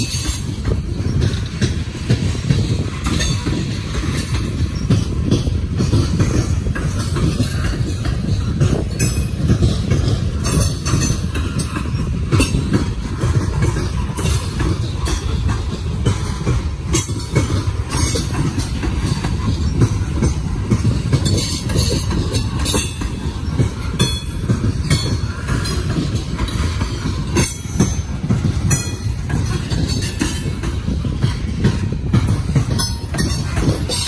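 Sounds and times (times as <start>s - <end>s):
freight cars rumbling: 0.0s - 34.0s
wheels clacking over rail joints: 0.0s - 34.0s.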